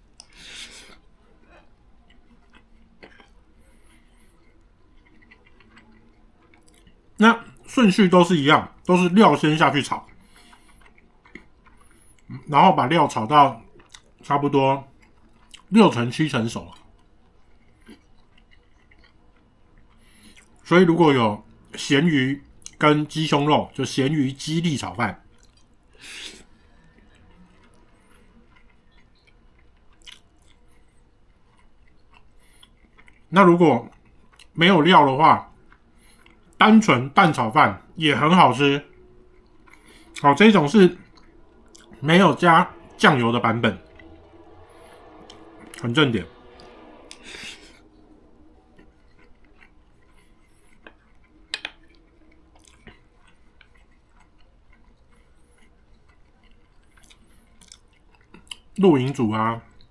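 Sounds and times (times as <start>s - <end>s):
faint chewing: 0.0s - 59.9s.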